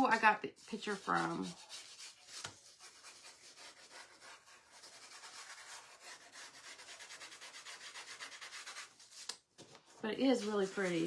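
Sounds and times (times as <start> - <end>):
scratchy rubbing strokes: 0.0 - 11.0.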